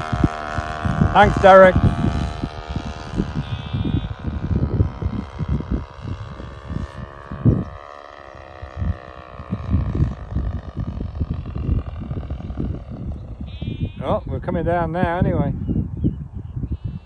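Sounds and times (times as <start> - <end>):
model aircraft engine running: 0.0 - 17.0
wind buffeting microphone: 0.0 - 17.0.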